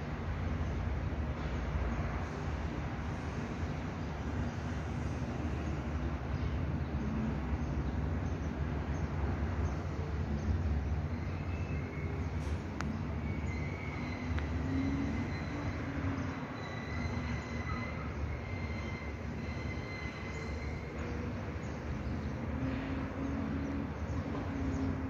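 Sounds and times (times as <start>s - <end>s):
low rumbling city noise: 0.0s - 25.0s.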